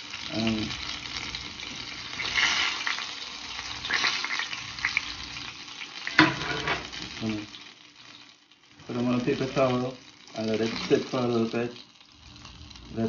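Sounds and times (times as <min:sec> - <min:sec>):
oil sizzling and crackling: 0:00.0 - 0:13.0.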